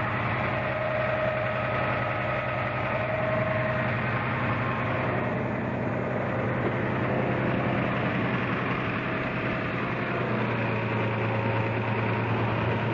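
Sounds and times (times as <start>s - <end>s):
engine idling with knock: 0.0s - 12.9s.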